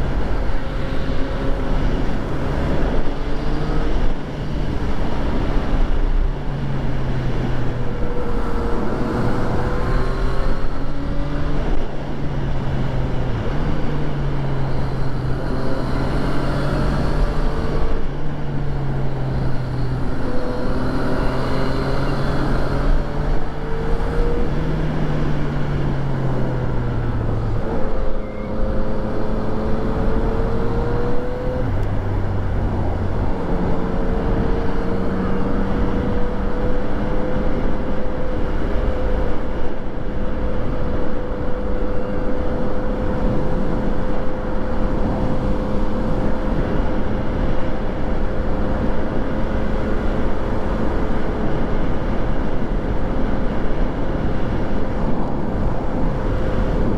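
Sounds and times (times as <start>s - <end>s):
road and wind noise: 0.0s - 56.9s.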